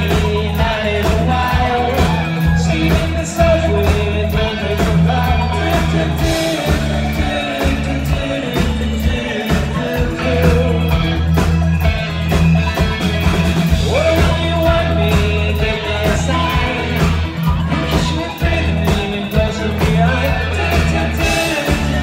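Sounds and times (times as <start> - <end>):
man singing: 0.0 - 11.5, 13.7 - 22.0
live rock band playing: 0.0 - 22.0.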